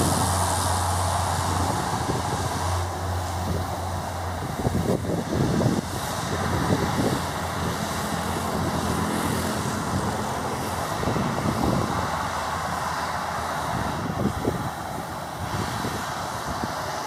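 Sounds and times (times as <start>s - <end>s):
propeller engine drone: 0.0s - 17.0s
wind rumble on microphone: 0.0s - 17.0s.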